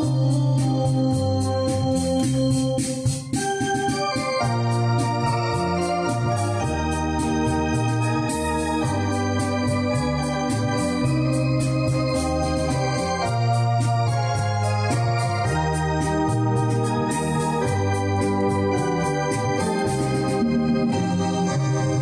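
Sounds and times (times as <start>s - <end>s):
electronic organ playing a song: 0.0s - 22.0s
steady ticking beat: 0.0s - 22.0s.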